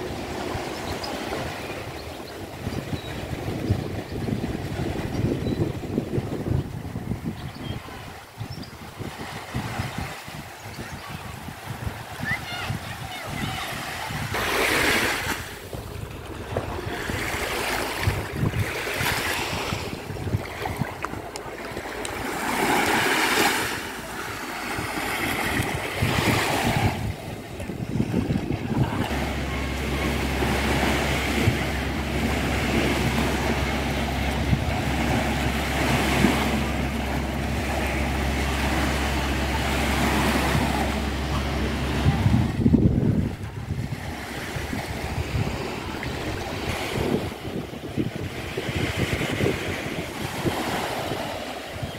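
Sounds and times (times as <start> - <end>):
small waves on sandy beach: 0.0 - 51.9
wind on microphone: 0.0 - 51.9.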